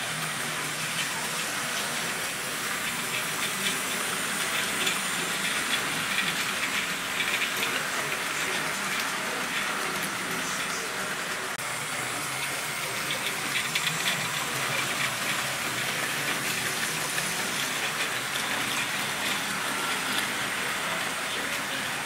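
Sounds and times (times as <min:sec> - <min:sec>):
small electric motors whirring: 0:00.0 - 0:22.0
wheels rattling on rails: 0:00.0 - 0:22.0.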